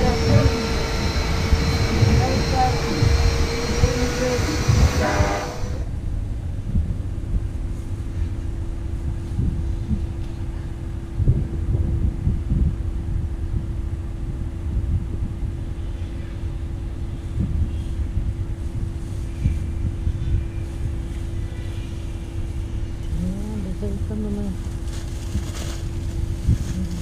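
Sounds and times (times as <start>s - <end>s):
constant low hum: 0.0s - 27.0s
vehicle rumble: 0.0s - 27.0s
wind buffeting on microphone: 0.0s - 27.0s.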